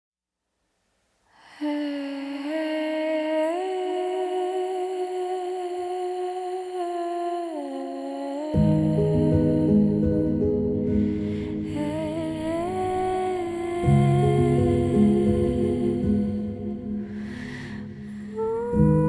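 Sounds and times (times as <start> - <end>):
soft music track: 1.4 - 19.0
person humming a slow melody: 1.6 - 19.0.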